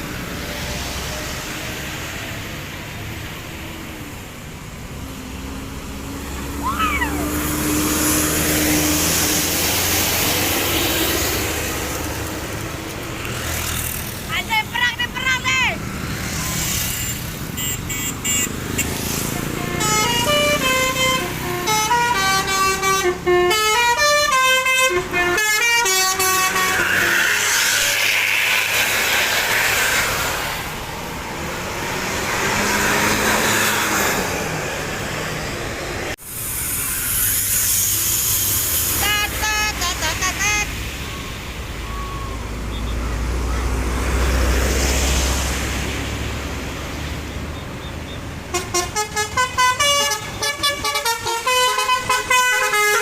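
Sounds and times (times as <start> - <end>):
vehicle passing: 0.0 - 47.6
road noise: 0.0 - 53.0.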